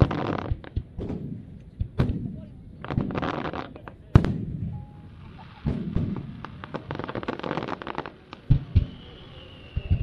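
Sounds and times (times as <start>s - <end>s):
deep firework booms: 0.0s - 3.5s, 4.1s - 10.0s
fireworks crackling pops: 0.0s - 4.6s, 5.2s - 10.0s.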